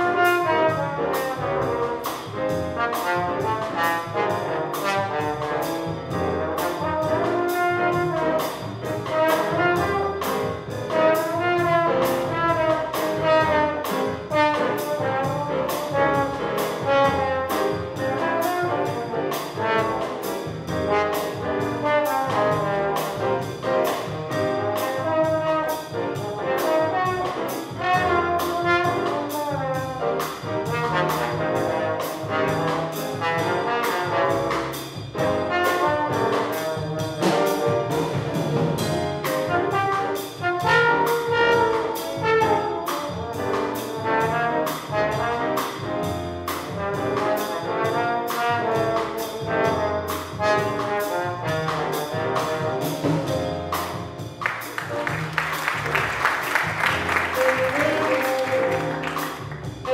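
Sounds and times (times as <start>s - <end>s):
horns playing melody: 0.0s - 53.8s, 54.4s - 59.9s
drum kit cymbal beat: 0.0s - 59.9s
piano: 0.0s - 59.9s
upright bass: 0.0s - 59.9s.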